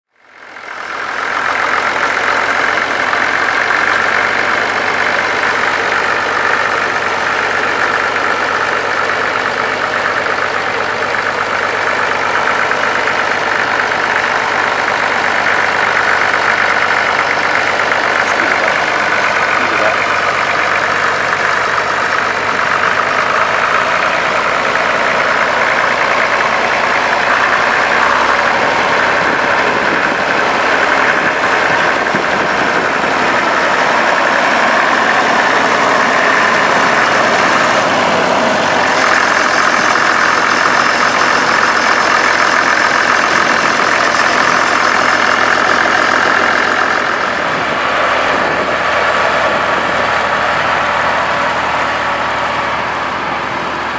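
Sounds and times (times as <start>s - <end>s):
tractor engine running at low speed: 0.0s - 53.9s.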